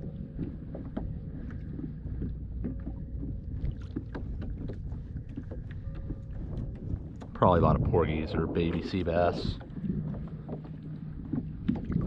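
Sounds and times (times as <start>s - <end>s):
water lapping against hull: 0.0s - 12.0s
wind rumbling on microphone: 0.0s - 12.0s.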